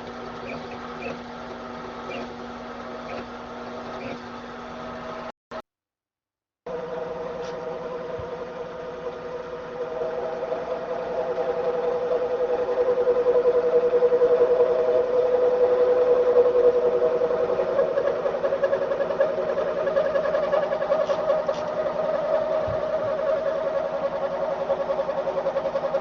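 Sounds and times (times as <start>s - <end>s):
metal lathe humming: 0.0s - 5.3s, 6.7s - 26.0s.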